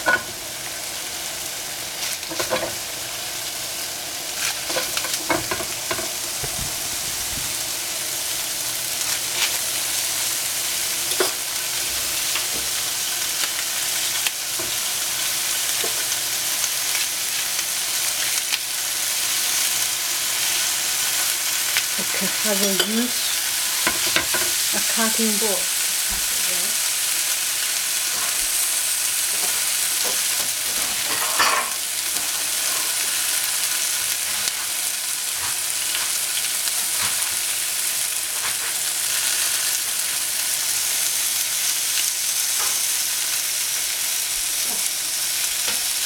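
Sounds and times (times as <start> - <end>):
greens sizzling in a frying pan: 0.0 - 46.0.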